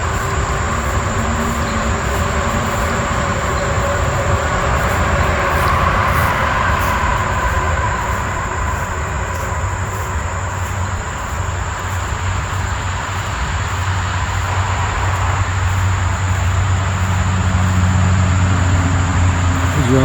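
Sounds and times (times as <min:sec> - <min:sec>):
engine low rumble: 0:00.0 - 0:20.0
high-pitched whine: 0:00.0 - 0:20.0.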